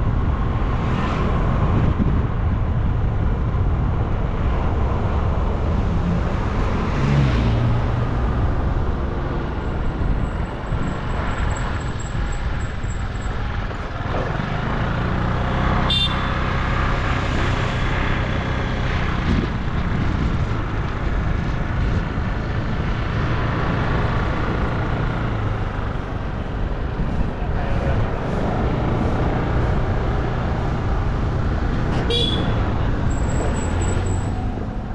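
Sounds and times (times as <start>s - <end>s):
traffic and road noise: 0.0s - 34.9s.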